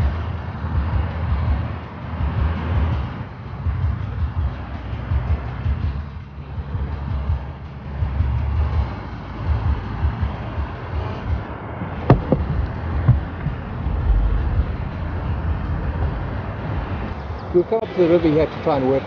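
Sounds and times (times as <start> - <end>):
wind rumbling on microphone: 0.0 - 17.6.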